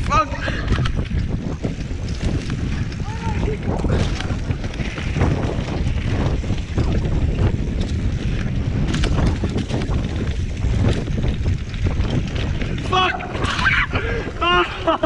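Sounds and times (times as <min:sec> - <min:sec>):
bike rattling over bumps: 0:00.0 - 0:15.0
wind rushing over microphone: 0:00.0 - 0:15.0.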